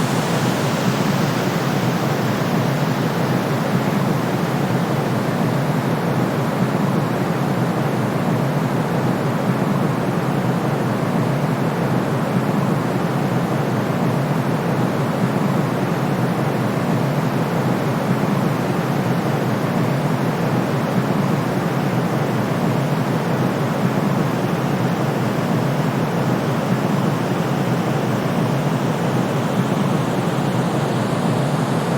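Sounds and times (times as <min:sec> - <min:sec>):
steady white noise hiss: 0:00.0 - 0:31.9.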